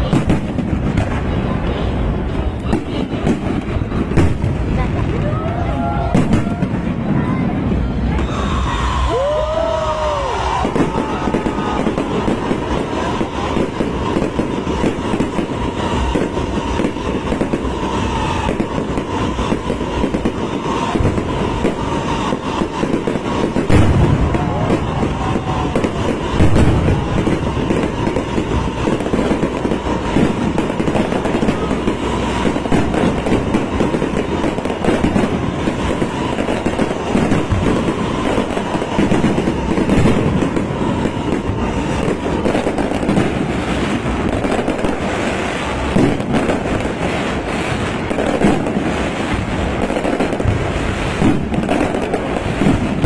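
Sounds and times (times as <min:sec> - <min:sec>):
fireworks crackling and popping: 0:00.0 - 0:53.0.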